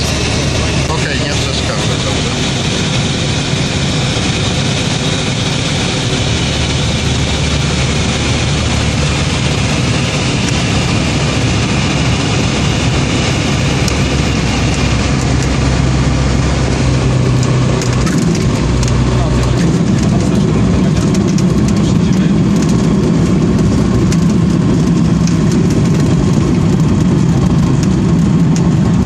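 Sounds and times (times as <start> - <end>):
aircraft engine and propeller: 0.0 - 29.0
rattles on runway: 0.0 - 29.0.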